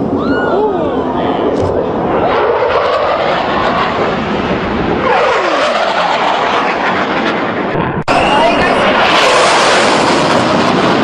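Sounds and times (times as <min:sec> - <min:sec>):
fighter jet flying low past: 0:01.0 - 0:11.0.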